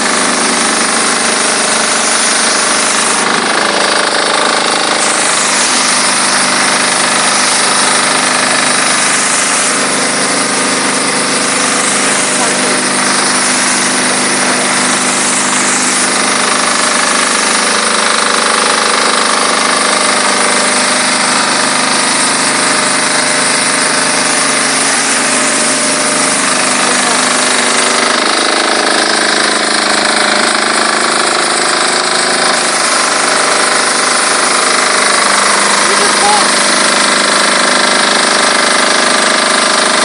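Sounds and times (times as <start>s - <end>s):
diesel engine hum: 0.0s - 40.0s
pressurised water jet hissing: 0.0s - 40.0s.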